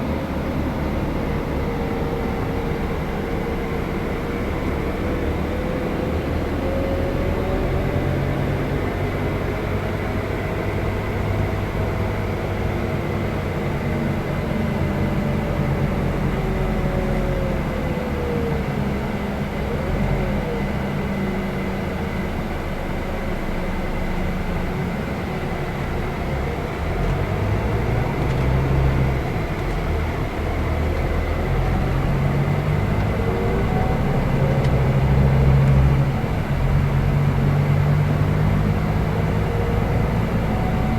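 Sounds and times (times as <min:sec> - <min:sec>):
bus engine drone: 0:00.0 - 0:40.9
faint engine whine: 0:00.0 - 0:40.9.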